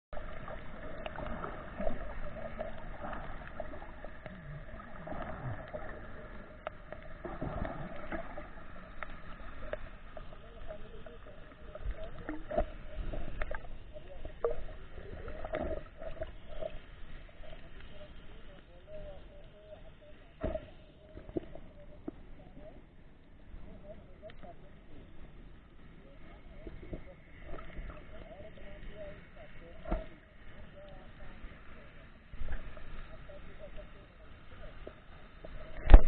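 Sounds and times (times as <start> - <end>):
muffled underwater sloshing: 0.1 - 36.0
faint steady hum: 0.2 - 36.0.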